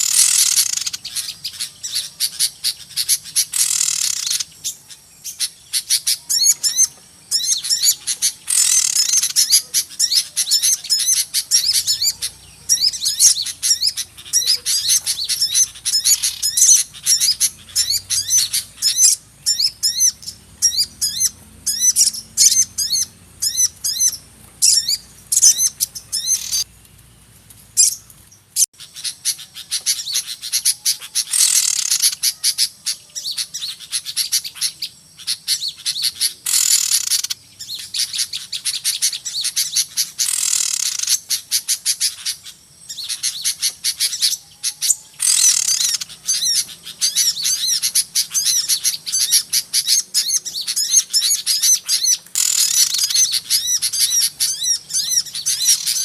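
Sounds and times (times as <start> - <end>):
harsh bird chattering: 0.0 - 26.7, 28.8 - 56.0
songbirds chirping: 0.0 - 56.0.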